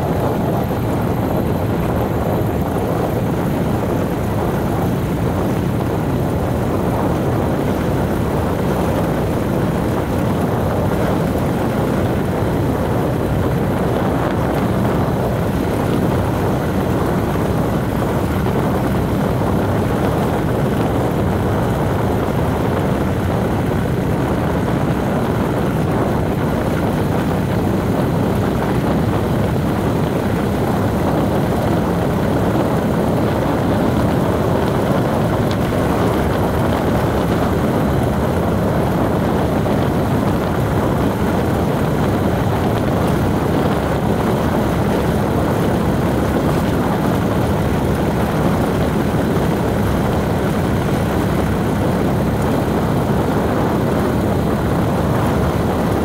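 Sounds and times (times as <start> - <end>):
vehicle road and engine noise: 0.0 - 56.0.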